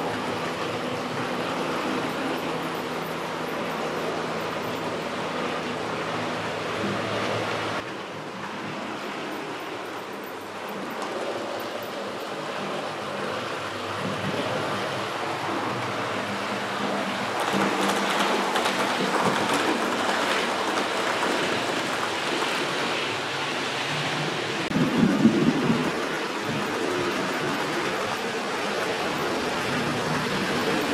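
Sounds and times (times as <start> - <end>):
model train running on track: 0.0 - 30.9.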